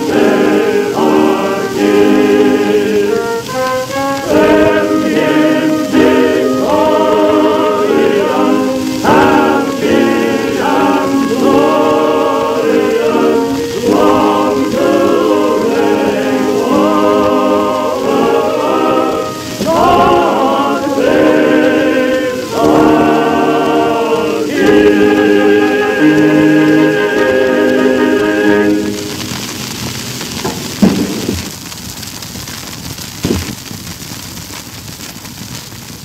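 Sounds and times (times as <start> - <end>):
male chorus singing: 0.0 - 29.2.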